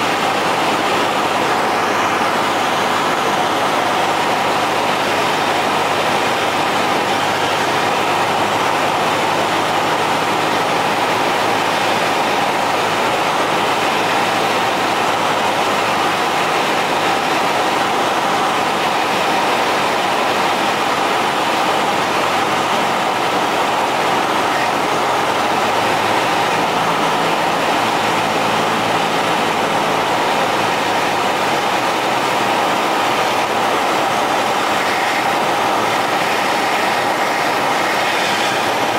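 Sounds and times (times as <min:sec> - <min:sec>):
aircraft engine and propeller running: 0:00.0 - 0:38.9.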